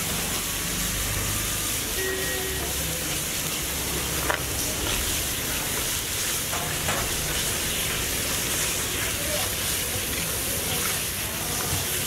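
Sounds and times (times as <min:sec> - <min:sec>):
food frying with sizzle: 0:00.0 - 0:12.0.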